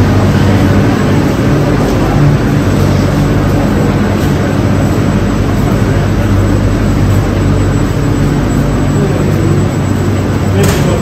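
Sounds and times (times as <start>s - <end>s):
train equipment droning: 0.0s - 11.0s.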